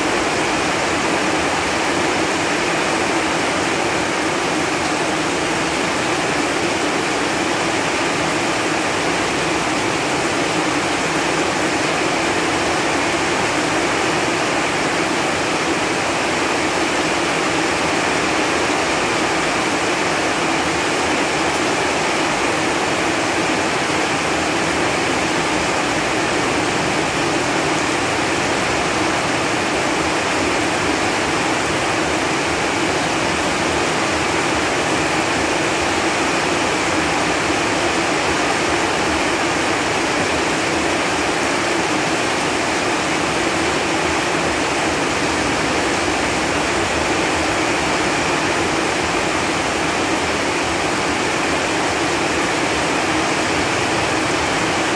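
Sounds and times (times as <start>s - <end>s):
rain falling on leaves: 0.0s - 54.9s.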